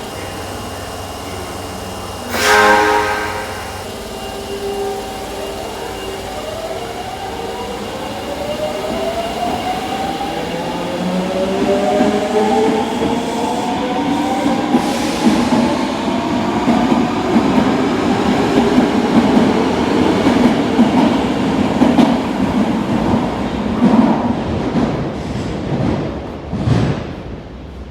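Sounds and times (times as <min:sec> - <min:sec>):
subway train motor whine: 0:00.0 - 0:25.0
train rumble and wheel clatter: 0:00.0 - 0:27.9.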